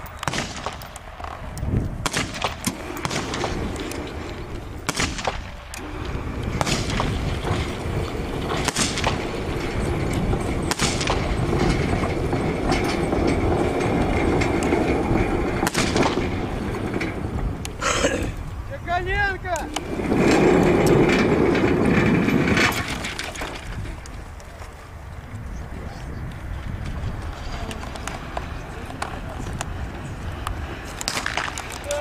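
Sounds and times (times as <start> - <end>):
sharp cracks: 0.0 - 24.6, 26.7 - 32.0
carriage rolling on rail track: 0.0 - 32.0.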